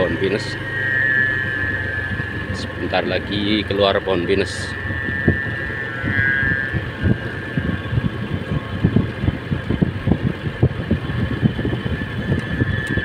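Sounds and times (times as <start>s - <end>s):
high-pitched whine: 0.0s - 13.0s
motorcycle running: 0.0s - 13.0s
wind buffeting microphone: 1.5s - 13.0s.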